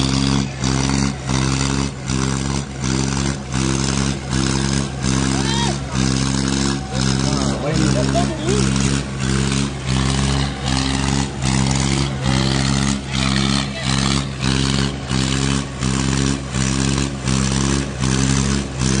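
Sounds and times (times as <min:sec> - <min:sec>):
tractor diesel engines under load: 0:00.0 - 0:19.0.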